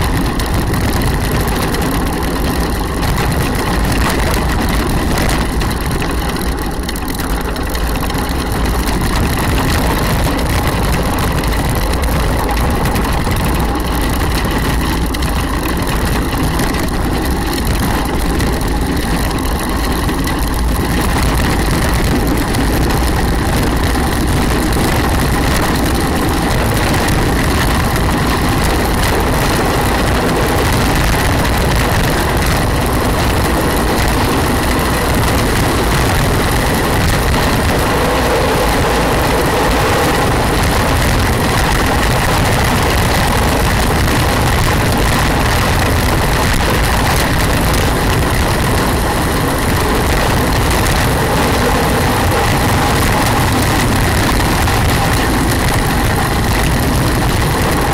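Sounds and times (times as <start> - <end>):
hard wheels rolling on asphalt: 0.0 - 57.9
wind rushing on microphone: 0.0 - 57.9.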